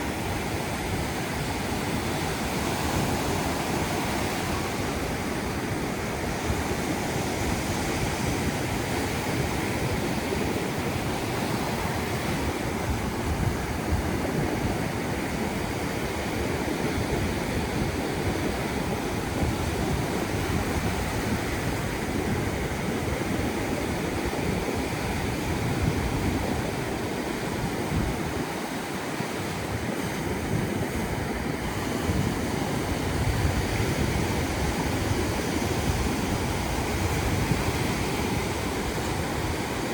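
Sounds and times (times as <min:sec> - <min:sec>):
surf washing onto a beach: 0:00.0 - 0:39.9.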